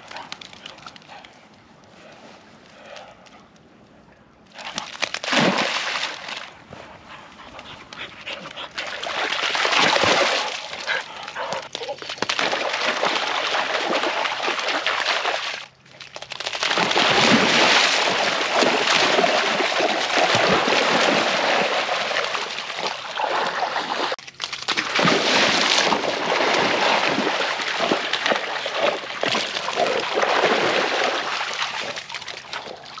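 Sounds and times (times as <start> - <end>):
dogs splashing through water: 4.5 - 6.6, 7.3 - 33.0.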